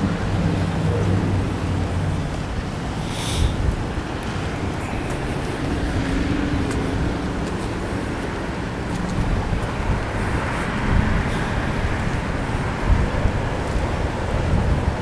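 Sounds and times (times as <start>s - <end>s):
outdoor background noise: 0.0s - 15.0s
wind rumbling on microphone: 0.0s - 15.0s.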